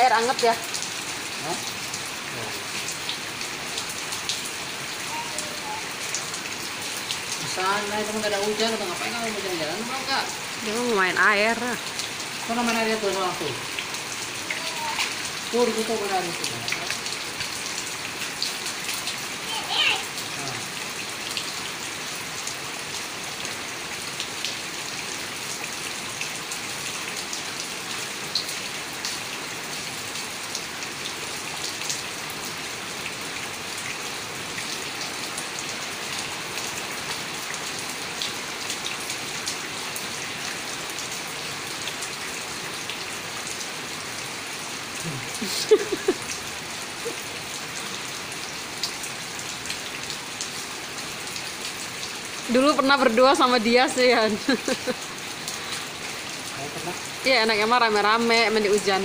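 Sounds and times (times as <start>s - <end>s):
rain drops ticking on hard surfaces: 0.0s - 59.0s
steady rain falling: 0.0s - 59.0s.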